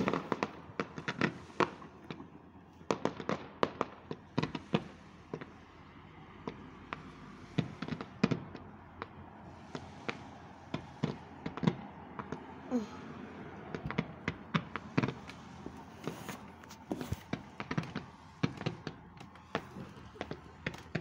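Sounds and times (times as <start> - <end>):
distant fireworks popping and banging: 0.0 - 21.0.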